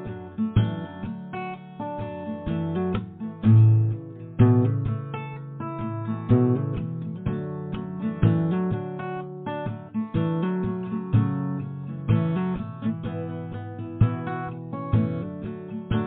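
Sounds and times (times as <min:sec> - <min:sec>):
acoustic guitar playing chords: 0:00.0 - 0:16.0.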